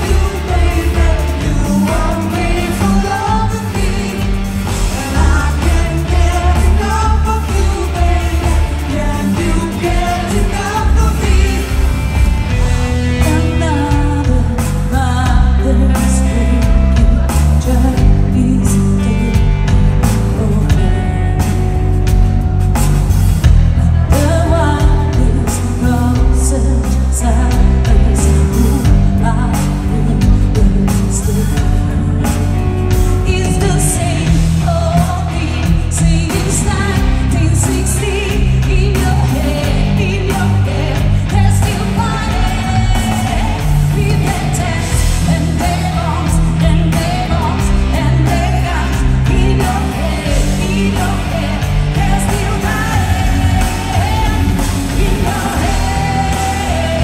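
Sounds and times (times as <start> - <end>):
woman singing into a microphone: 0.0 - 12.1, 13.1 - 21.8, 23.6 - 57.0
bass guitar: 0.0 - 57.0
drums and cymbals: 0.0 - 57.0.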